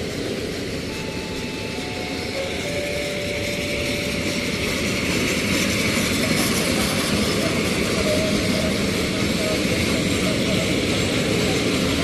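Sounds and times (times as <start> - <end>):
train wheels clattering on track: 0.0 - 12.0.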